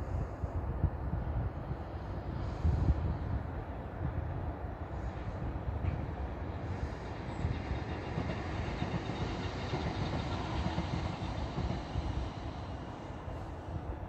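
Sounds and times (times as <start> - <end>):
distant train running on track: 0.0 - 14.0.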